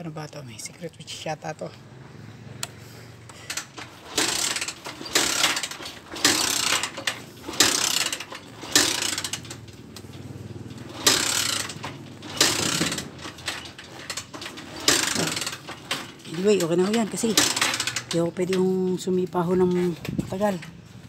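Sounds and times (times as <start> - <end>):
motorcycle kickstarter cranking: 2.5 - 20.8.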